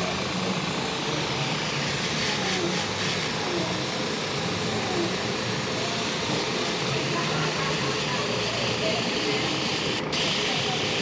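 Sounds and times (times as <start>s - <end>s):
airbrush air hiss: 0.0s - 11.0s.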